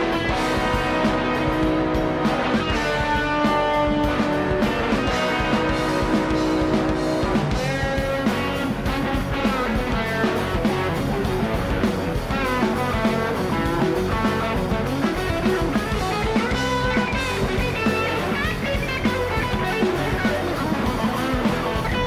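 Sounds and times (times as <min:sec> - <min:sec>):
rock music with guitar: 0:00.0 - 0:22.0.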